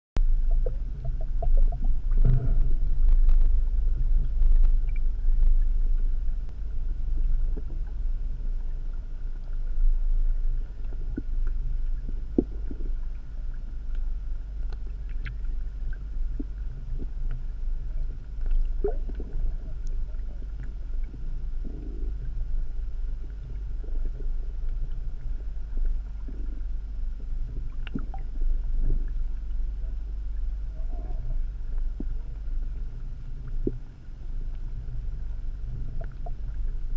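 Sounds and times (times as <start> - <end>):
faint clicks and ticks: 0.2 - 36.9
underwater water rumble: 0.2 - 36.9.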